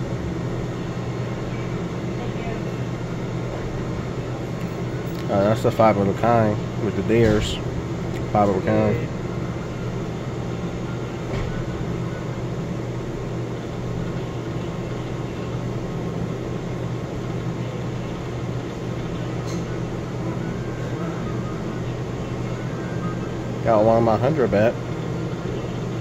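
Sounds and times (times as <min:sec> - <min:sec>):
low droning hum: 0:00.0 - 0:26.0.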